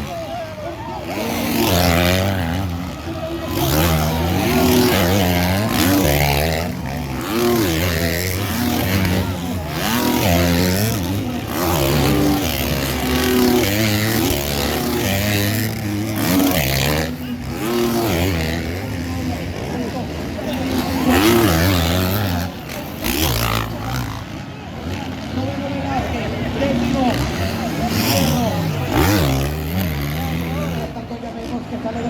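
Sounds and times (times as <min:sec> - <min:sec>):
motocross bikes revving: 0:00.0 - 0:32.0.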